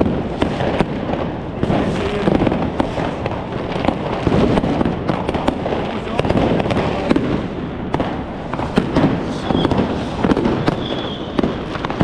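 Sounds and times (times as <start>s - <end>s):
fireworks and firecrackers crackling: 0.0s - 12.0s.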